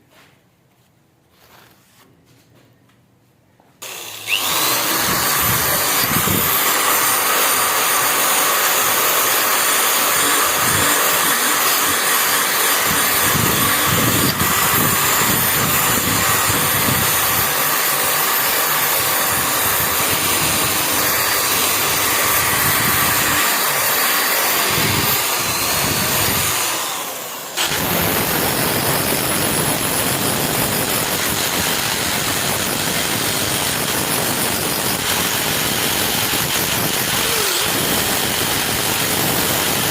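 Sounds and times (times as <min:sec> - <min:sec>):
electric power tool grinding: 0:03.8 - 0:39.9.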